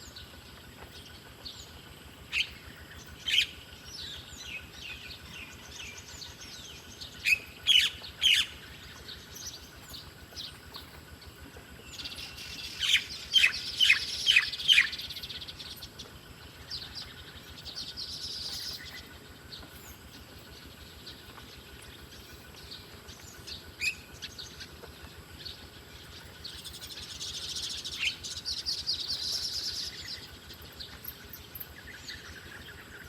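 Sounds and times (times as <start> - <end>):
soft background bird chirping: 0.0 - 33.0.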